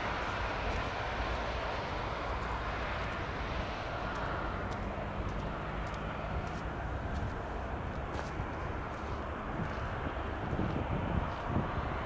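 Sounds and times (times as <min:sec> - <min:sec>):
aircraft engine rumble: 0:00.0 - 0:12.0.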